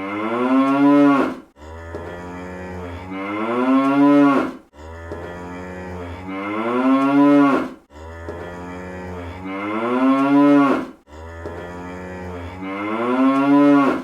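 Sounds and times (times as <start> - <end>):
cartoon cow mooing: 0.0 - 14.0.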